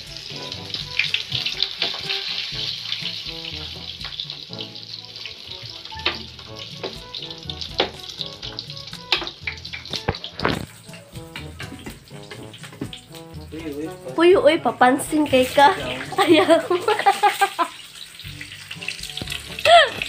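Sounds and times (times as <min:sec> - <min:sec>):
background music: 0:00.0 - 0:20.0
food sizzling in a pan: 0:00.0 - 0:20.0.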